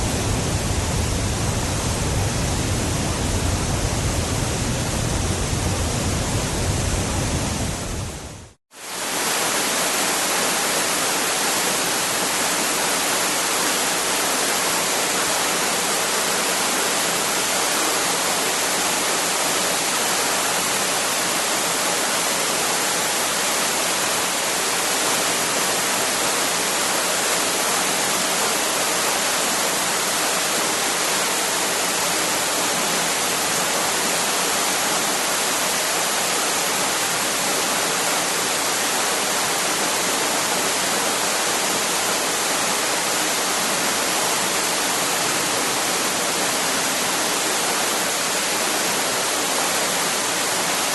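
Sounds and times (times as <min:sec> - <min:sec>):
waterfall rushing water: 0:00.0 - 0:50.9.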